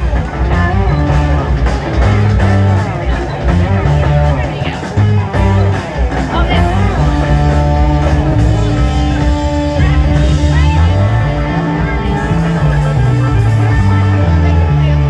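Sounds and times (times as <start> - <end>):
rock music with guitar and bass: 0.0 - 15.0.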